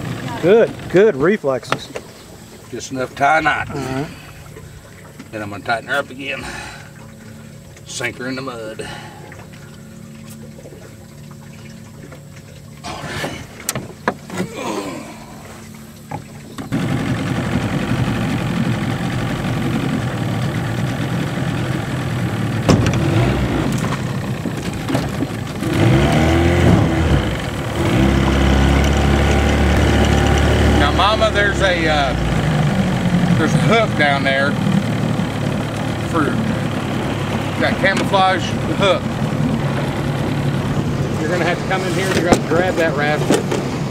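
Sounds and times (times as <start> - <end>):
outboard motor running: 0.0 - 43.9.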